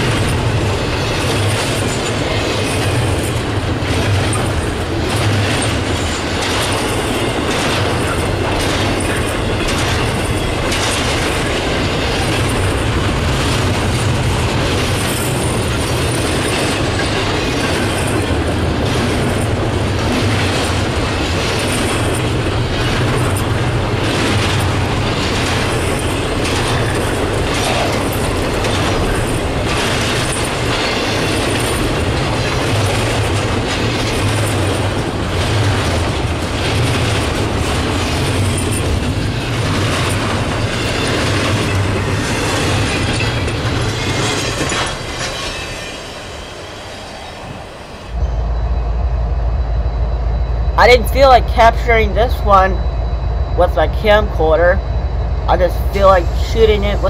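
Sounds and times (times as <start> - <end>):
wheels clicking over rail joints: 0.0 - 46.1
freight train rumbling: 0.0 - 57.0.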